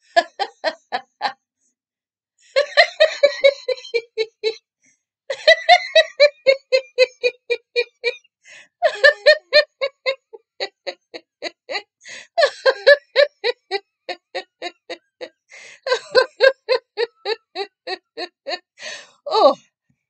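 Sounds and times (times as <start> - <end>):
woman laughing heartily: 0.0 - 1.4, 2.5 - 4.6, 5.3 - 19.6.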